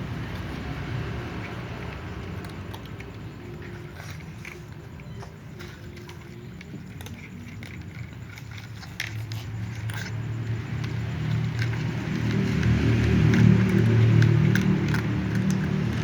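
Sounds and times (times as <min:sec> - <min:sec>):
cats crunching dry food: 0:00.0 - 0:16.0.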